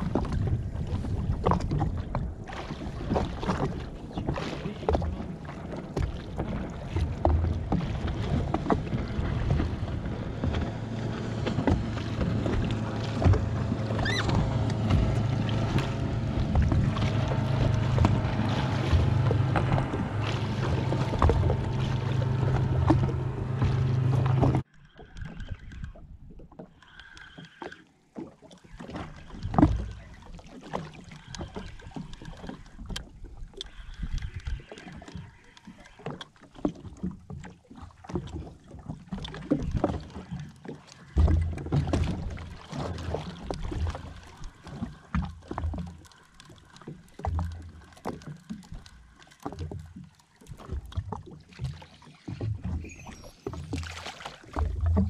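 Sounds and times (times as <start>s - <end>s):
jet ski engine humming: 0.0s - 28.2s, 29.0s - 55.0s.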